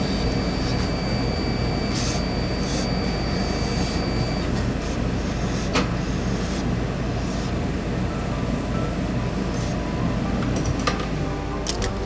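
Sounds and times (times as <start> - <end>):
steady machine drone: 0.0 - 12.0.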